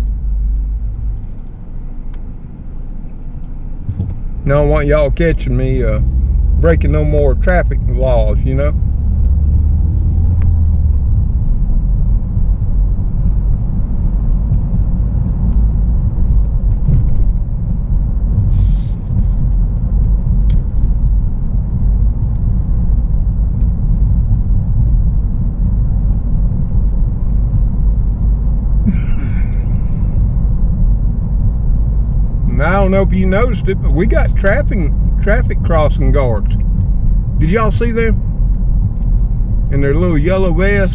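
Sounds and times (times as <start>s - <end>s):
car interior rumble: 0.0s - 40.9s.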